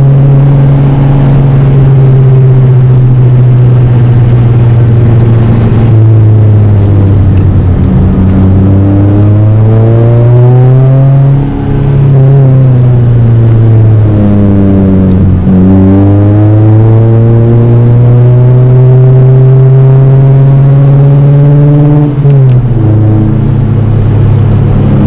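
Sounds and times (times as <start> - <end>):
car engine pulling hard: 0.0 - 25.0.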